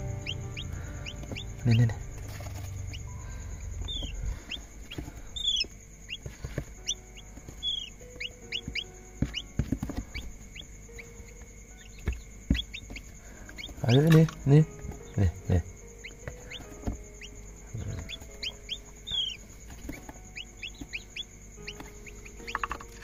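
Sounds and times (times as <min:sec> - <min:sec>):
quail chick peeping: 0:00.0 - 0:23.0.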